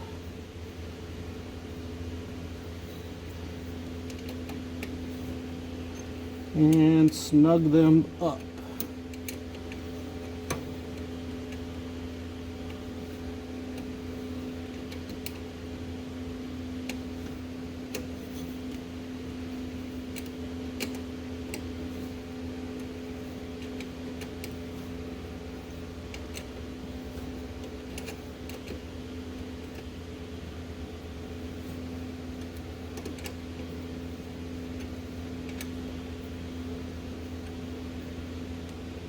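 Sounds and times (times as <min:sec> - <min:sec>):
steady background hum: 0:00.0 - 0:39.0.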